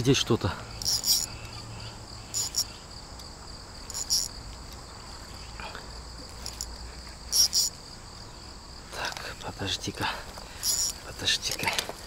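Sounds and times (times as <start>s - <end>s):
insect chirping bursts: 0.0s - 11.7s
insects trilling: 0.0s - 12.0s.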